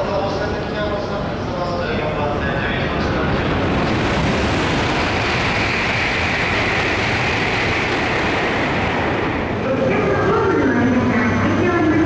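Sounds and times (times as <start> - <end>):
train hum and rushing hiss: 0.0 - 12.0.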